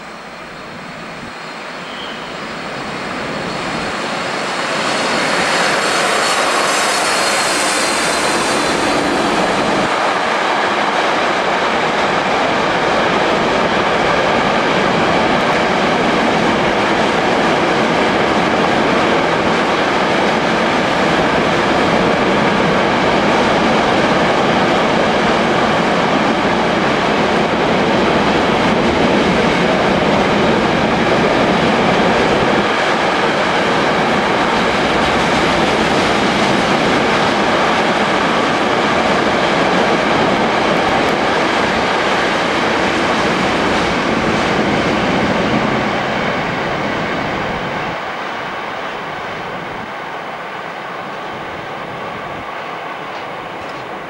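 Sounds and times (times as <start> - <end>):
electric locomotive passing: 0.0 - 54.0
train wheels rolling on rails: 0.0 - 54.0.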